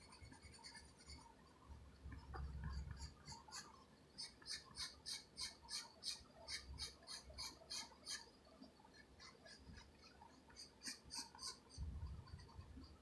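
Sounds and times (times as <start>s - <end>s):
pencil scratching on paper: 0.0s - 8.3s, 8.9s - 13.0s.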